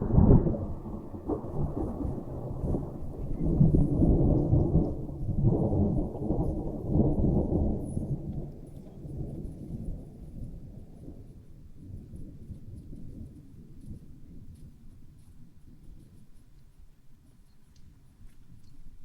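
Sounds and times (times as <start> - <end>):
thunder rumbling: 0.0 - 16.4.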